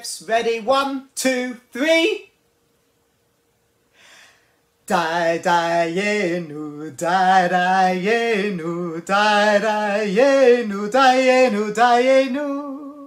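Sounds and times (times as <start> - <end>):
man singing unaccompanied: 0.0 - 2.4, 4.8 - 13.0.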